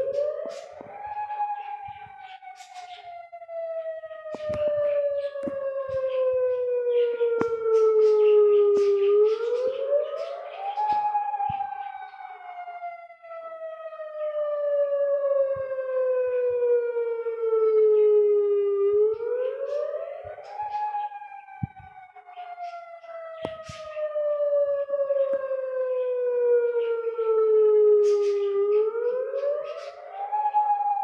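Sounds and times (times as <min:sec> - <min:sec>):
outdoor warning siren wailing: 0:00.0 - 0:31.0.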